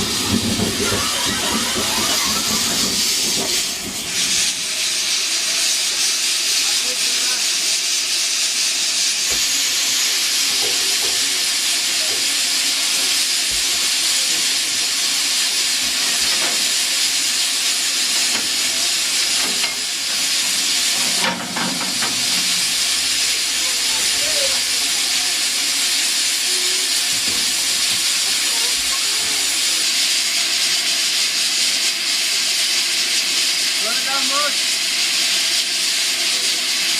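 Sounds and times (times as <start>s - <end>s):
steam locomotive hissing: 0.0s - 36.9s.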